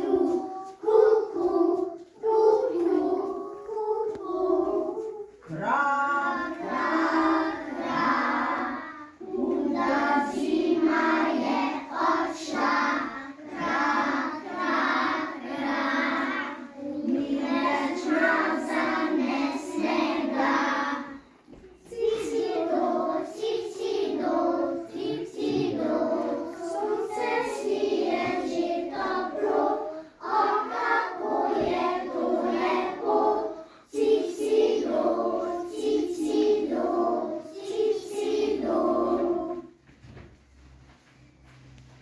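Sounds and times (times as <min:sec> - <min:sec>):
children singing together: 0:00.0 - 0:39.8.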